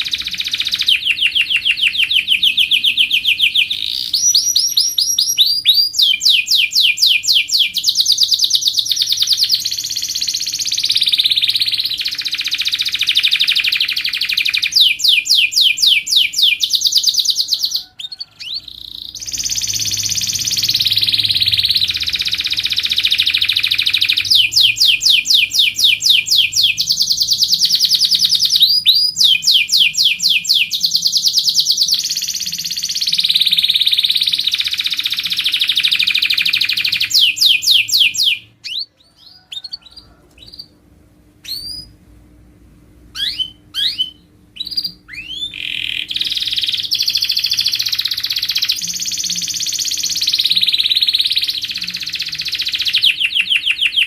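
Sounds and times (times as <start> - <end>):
canary singing trills: 0.0 - 40.8, 41.4 - 42.1, 43.1 - 54.0.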